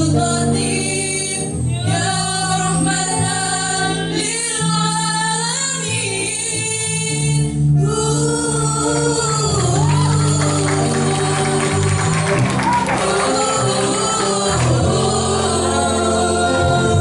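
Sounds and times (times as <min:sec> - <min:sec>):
choir of women singing: 0:00.0 - 0:17.0
low steady accompaniment: 0:00.0 - 0:17.0.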